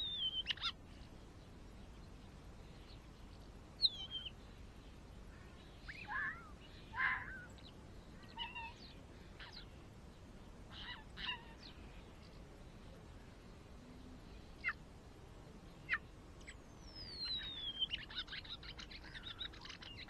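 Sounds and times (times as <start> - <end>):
faint outdoor background: 0.0 - 20.0
small birds chirping: 0.0 - 20.0.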